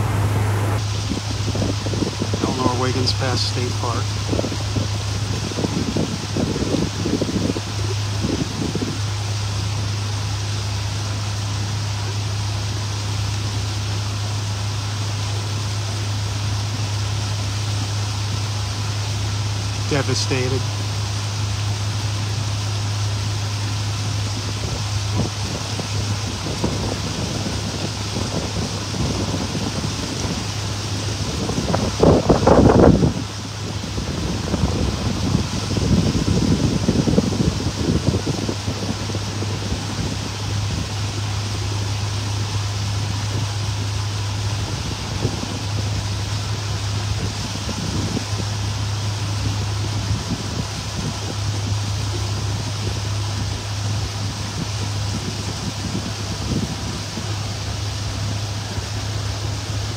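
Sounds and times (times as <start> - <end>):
boat engine droning: 0.0 - 59.9
rush of wind and water: 0.0 - 59.9.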